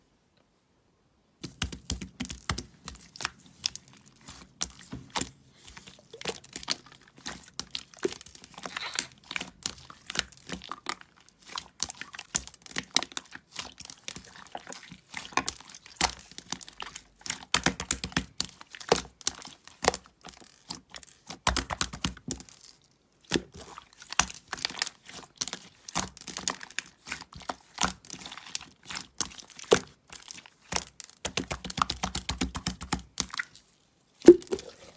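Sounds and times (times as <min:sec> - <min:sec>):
crackling and crinkling handling: 0:01.5 - 0:34.9.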